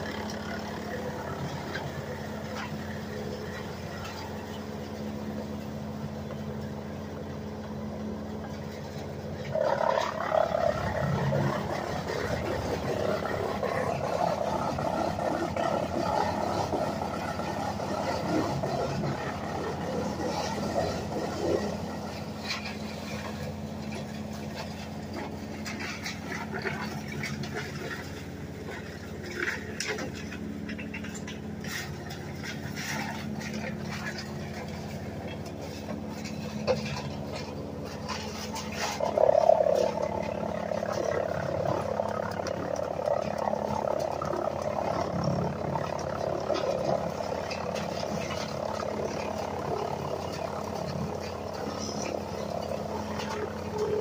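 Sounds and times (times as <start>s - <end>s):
tractor engine running: 0.0s - 54.0s
woodchipper spinning: 0.0s - 54.0s.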